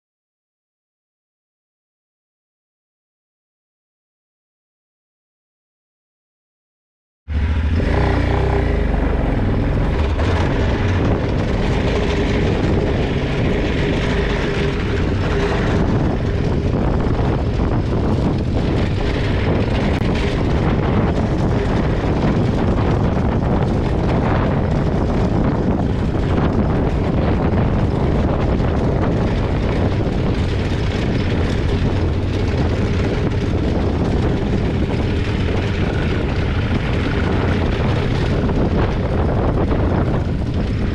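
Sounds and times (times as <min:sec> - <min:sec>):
motorcycle engine running: 0:07.3 - 0:40.9
wind rumble on microphone: 0:07.3 - 0:40.9.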